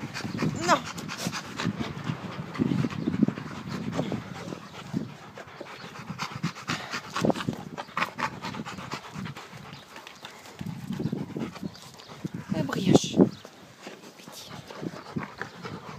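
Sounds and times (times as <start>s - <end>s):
dog panting: 0.0s - 15.9s.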